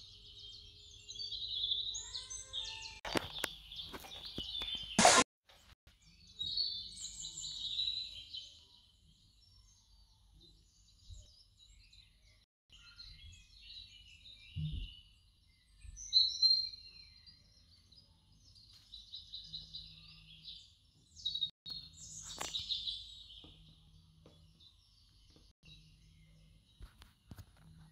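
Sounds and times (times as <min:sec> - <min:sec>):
birds chirping and singing: 0:00.0 - 0:27.9.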